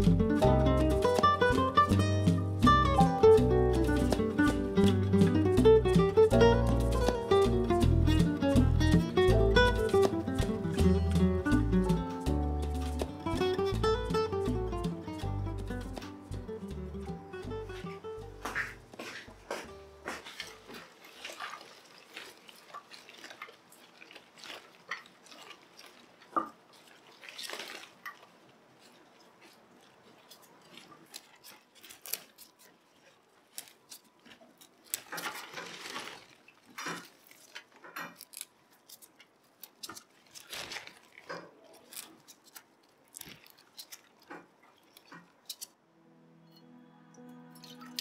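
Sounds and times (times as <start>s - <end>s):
rustling: 0.0s - 45.8s.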